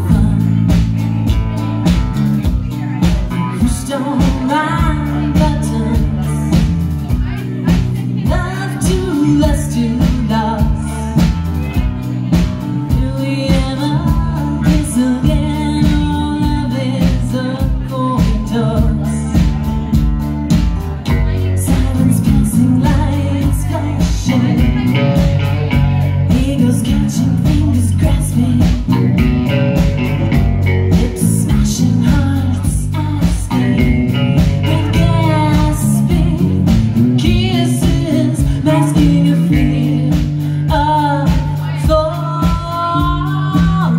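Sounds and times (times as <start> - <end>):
woman singing: 0.0 - 29.3, 30.9 - 43.9
rock band playing: 0.0 - 43.9.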